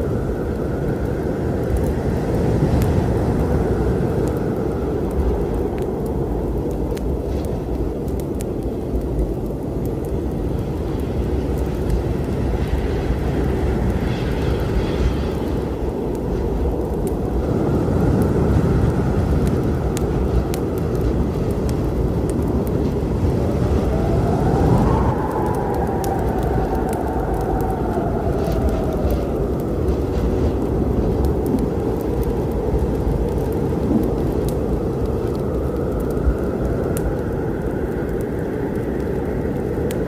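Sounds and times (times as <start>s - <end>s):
thunder rumble: 0.0s - 40.0s
wood fire crackling: 0.0s - 40.0s.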